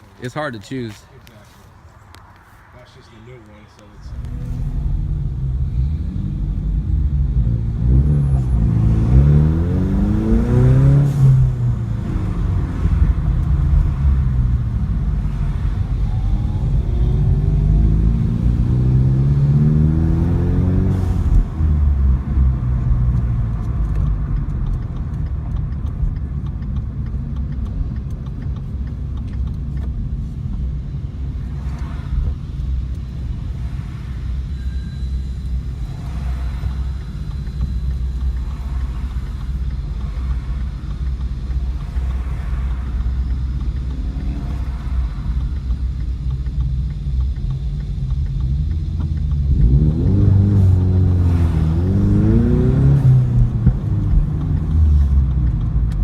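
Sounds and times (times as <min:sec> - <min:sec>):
car engines idling: 0:00.0 - 0:56.0
car engine revving: 0:03.9 - 0:56.0.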